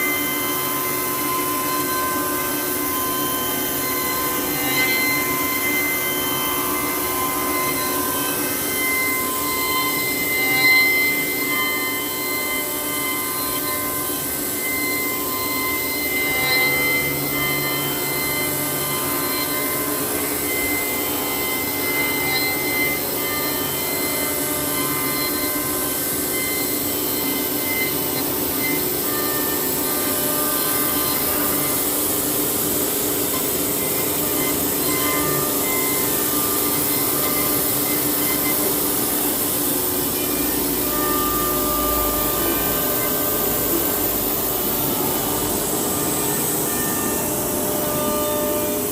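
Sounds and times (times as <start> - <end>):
cnc machine whining: 0.0 - 48.9.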